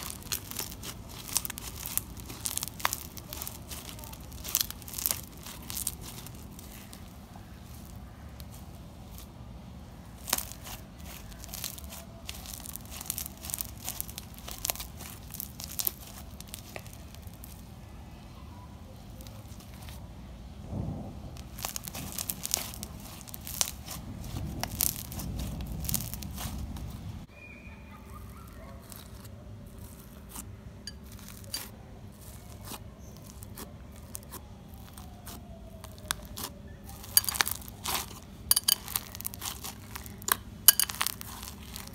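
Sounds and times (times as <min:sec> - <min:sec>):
slime popping and crackling: 0:00.0 - 0:17.7, 0:19.1 - 0:20.1, 0:20.7 - 0:27.3, 0:28.1 - 0:41.9.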